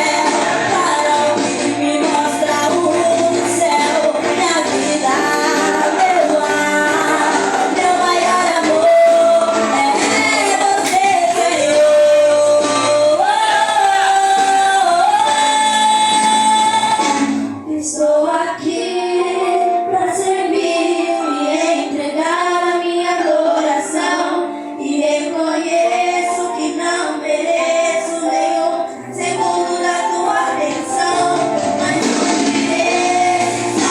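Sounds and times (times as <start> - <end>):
band playing worship song: 0.0 - 33.9
woman singing: 0.0 - 33.9.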